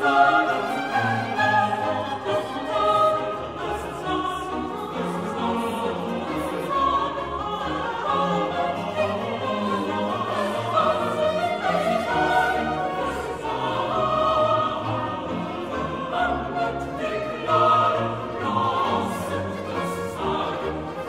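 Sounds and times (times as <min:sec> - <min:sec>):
choir singing: 0:00.0 - 0:21.0
orchestral accompaniment: 0:00.0 - 0:21.0.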